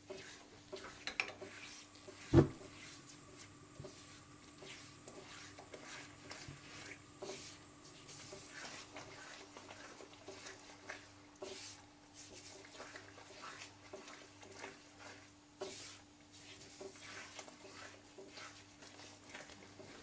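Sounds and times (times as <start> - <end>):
spatula stirring thick batter: 0.0 - 20.0
squelching scraping strokes: 0.1 - 20.0.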